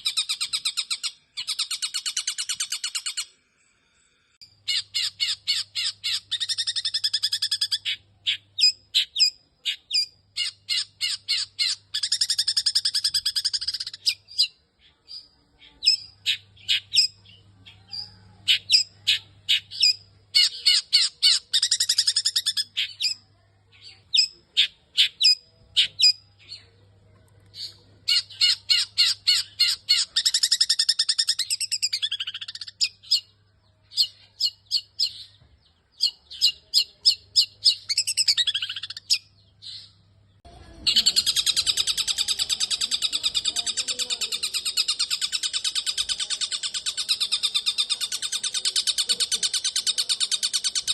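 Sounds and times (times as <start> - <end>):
bird chirping and trilling: 0.0 - 3.4, 4.4 - 26.8, 27.6 - 50.9.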